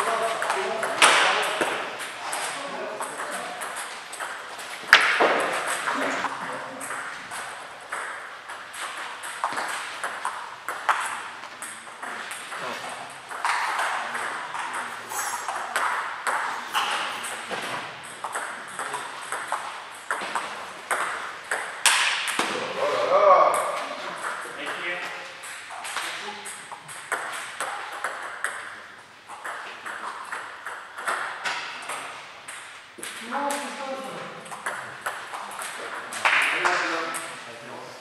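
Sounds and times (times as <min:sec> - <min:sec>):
table tennis balls clicking: 0:00.0 - 0:22.7, 0:23.5 - 0:37.4.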